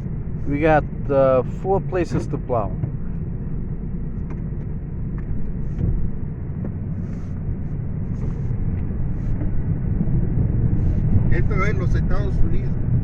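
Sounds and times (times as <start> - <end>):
road rumble: 0.0 - 13.0
truck engine running: 0.0 - 13.0.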